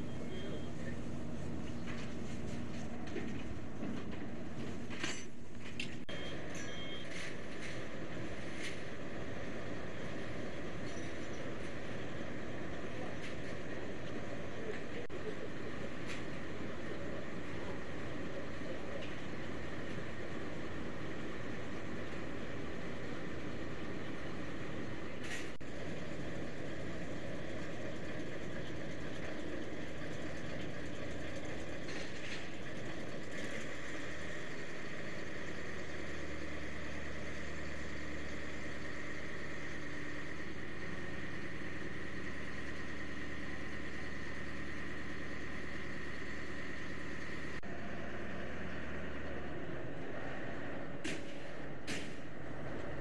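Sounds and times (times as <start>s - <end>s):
deeper engine drone: 0.0s - 53.0s.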